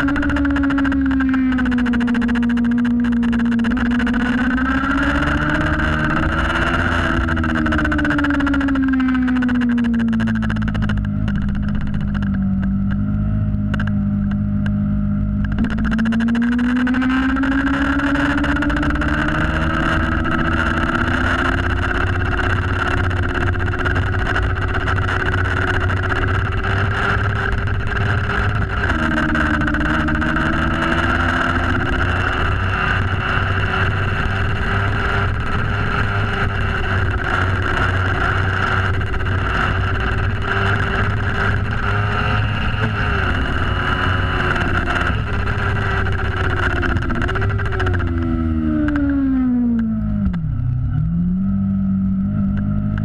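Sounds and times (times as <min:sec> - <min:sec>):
motorcycle engine revving: 0:00.0 - 0:53.0
wind noise: 0:00.0 - 0:53.0.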